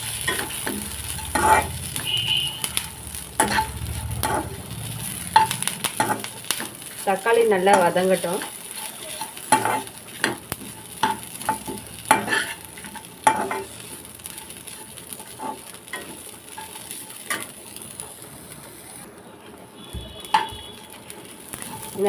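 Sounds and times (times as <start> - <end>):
spatula scraping in pan: 0.0 - 18.0, 20.2 - 22.0
faint sizzle: 0.0 - 22.0.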